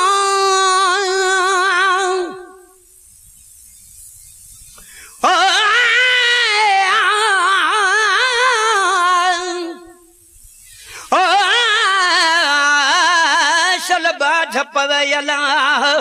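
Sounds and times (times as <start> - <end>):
person singing with vibrato: 0.0 - 2.9, 4.9 - 16.0.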